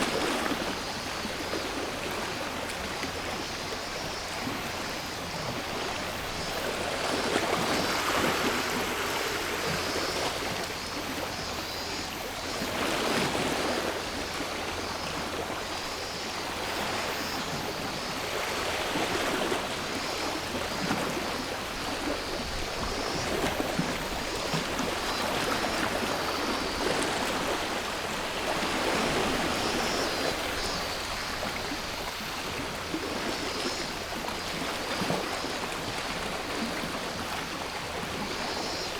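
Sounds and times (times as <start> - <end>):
cicada chorus: 0.0 - 38.9
sea waves washing ashore: 0.0 - 38.9.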